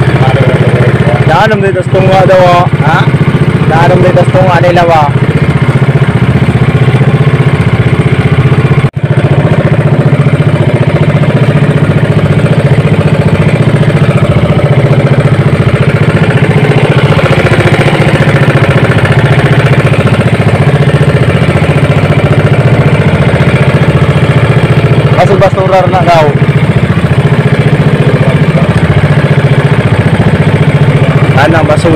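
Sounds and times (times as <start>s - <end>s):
boat engine droning: 0.0s - 31.9s.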